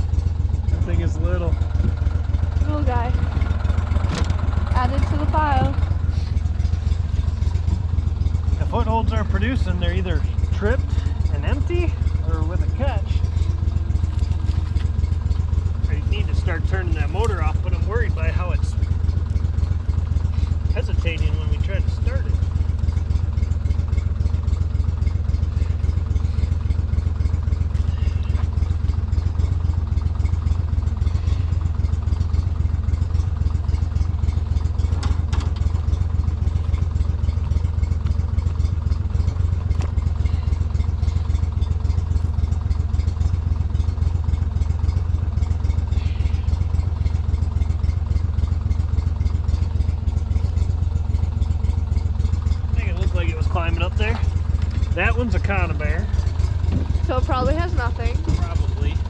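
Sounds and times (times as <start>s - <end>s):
boat motor droning: 0.0s - 59.0s.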